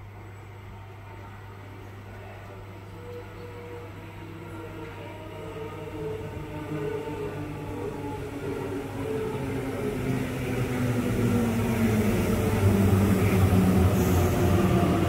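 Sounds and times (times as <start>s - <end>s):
electric train approaching: 2.2s - 15.0s.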